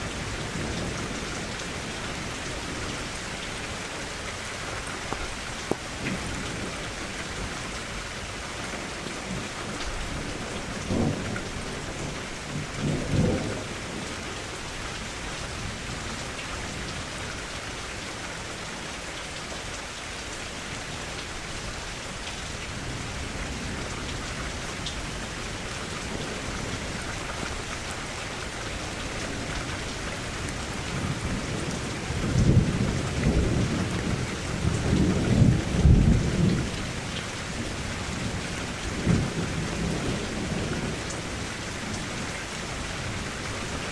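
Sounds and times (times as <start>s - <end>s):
rain against a window: 0.0s - 43.9s.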